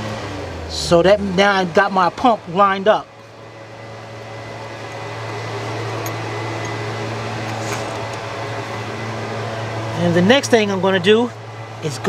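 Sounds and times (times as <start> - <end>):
electric blower fan humming: 0.0 - 12.0.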